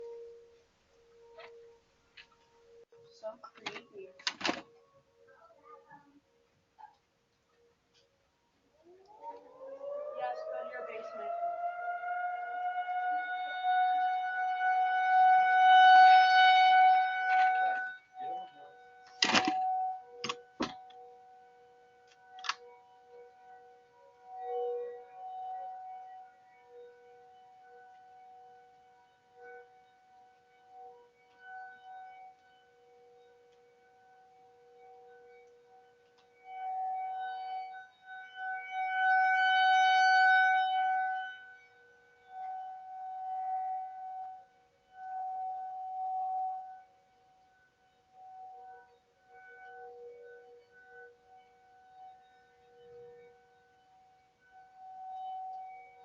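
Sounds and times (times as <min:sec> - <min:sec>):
distant tornado warning sirens: 0:00.0 - 0:56.0
higher-pitched siren steady tone: 0:00.0 - 0:56.0.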